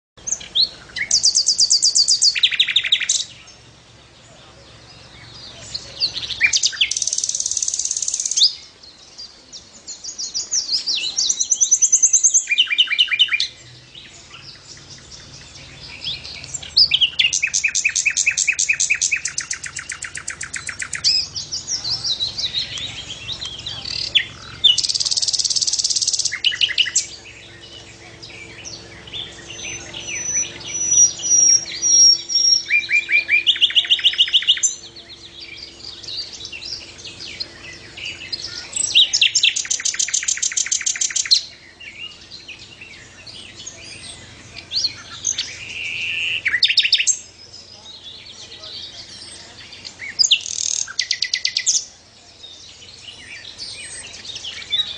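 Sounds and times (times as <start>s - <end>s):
bird chattering song: 0.2s - 54.9s.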